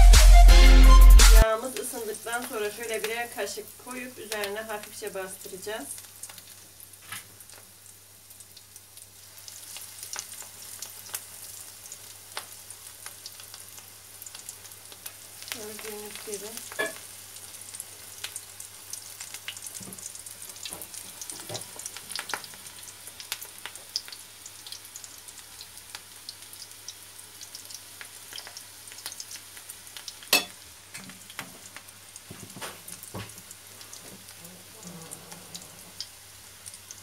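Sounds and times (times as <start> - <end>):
batter frying in hot oil: 1.4 - 37.0.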